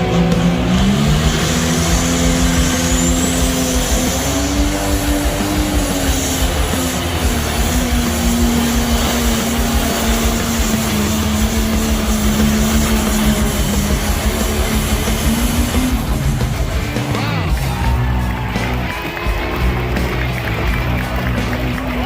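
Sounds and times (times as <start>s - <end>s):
engine running under load: 0.0s - 22.0s.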